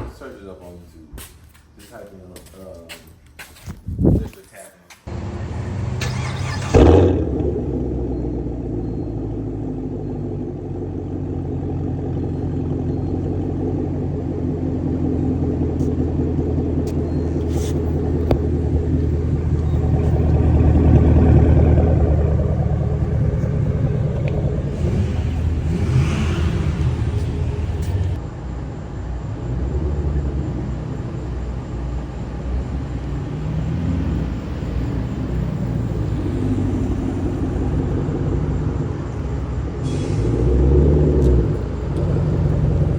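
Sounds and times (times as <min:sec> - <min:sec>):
car exhaust while driving: 0:05.1 - 0:42.9.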